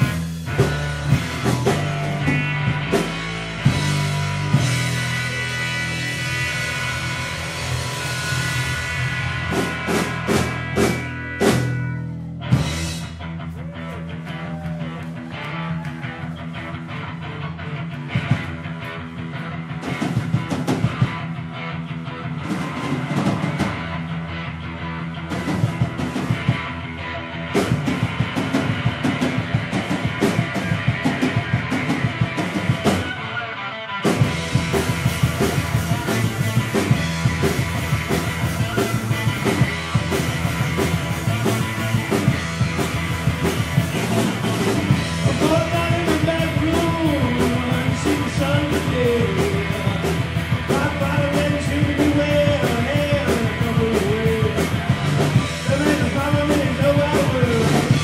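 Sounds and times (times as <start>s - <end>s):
drums and cymbals: 0.0s - 14.7s, 18.0s - 21.4s, 22.2s - 33.3s, 34.0s - 58.0s
bass guitar: 0.0s - 58.0s
distorted electric guitar: 0.0s - 58.0s.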